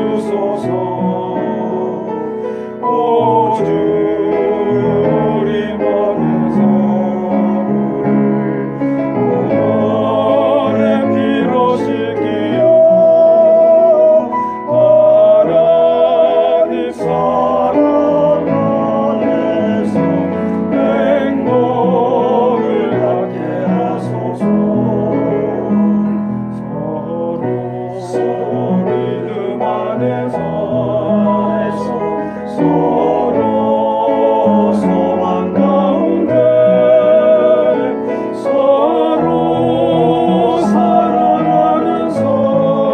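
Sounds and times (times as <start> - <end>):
piano accompaniment: 0.0 - 42.9
vocal ensemble singing a hymn: 0.0 - 42.9.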